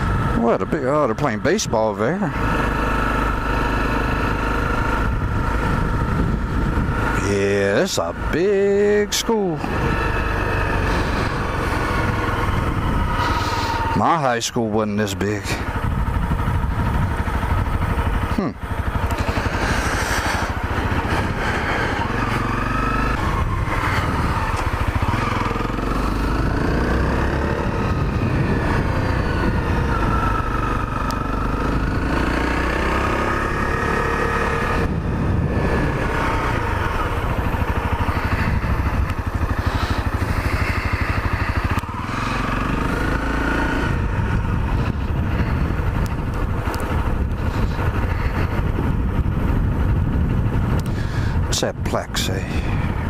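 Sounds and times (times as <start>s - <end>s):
motorcycle engine revving: 0.0s - 51.6s.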